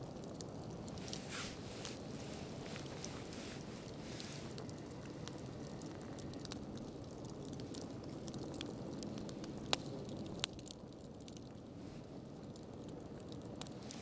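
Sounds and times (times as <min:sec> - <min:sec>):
campfire burning: 0:00.0 - 0:14.0
fire crackling and popping: 0:00.0 - 0:14.0.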